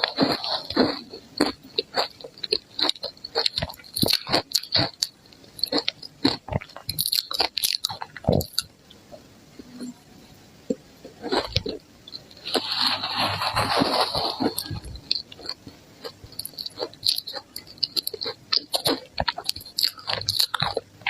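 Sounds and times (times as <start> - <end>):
ice cubes crunching: 0.0 - 8.7, 11.3 - 20.8.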